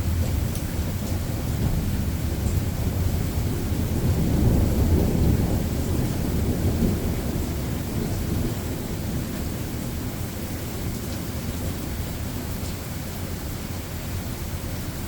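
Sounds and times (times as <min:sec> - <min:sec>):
thunder rumbling: 0:00.0 - 0:12.6
steady rain: 0:00.0 - 0:15.0.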